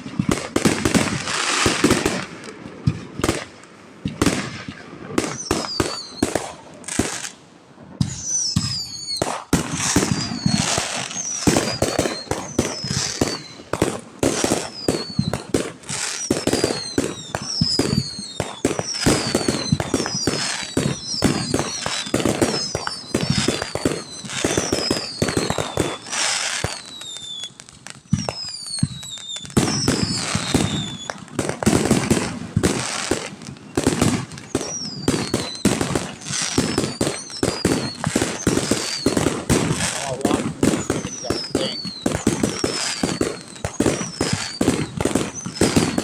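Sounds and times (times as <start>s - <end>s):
fireworks bangs and crackling: 0.0s - 46.0s
fireworks whistles falling in pitch: 4.0s - 7.4s, 8.0s - 46.0s.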